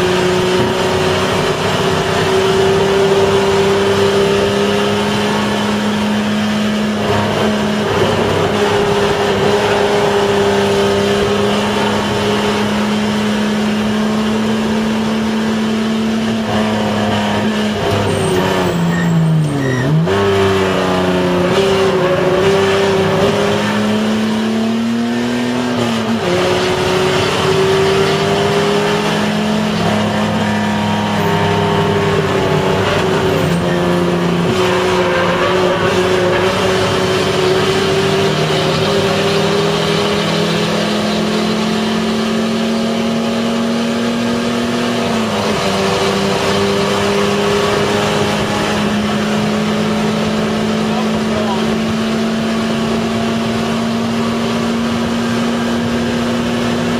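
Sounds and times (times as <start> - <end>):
race car engine revving: 0.0 - 56.9.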